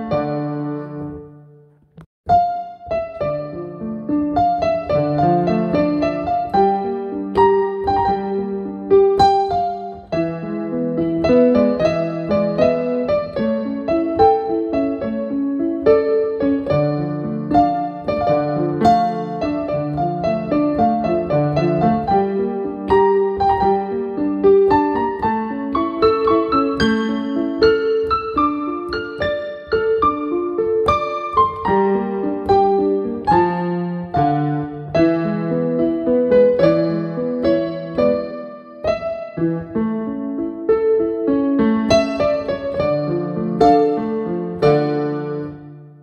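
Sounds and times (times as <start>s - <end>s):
digital piano playing: 0.0s - 46.0s.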